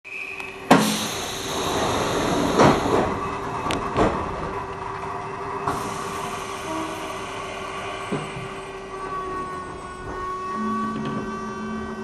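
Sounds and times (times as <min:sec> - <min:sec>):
electric train humming: 0:00.1 - 0:12.0.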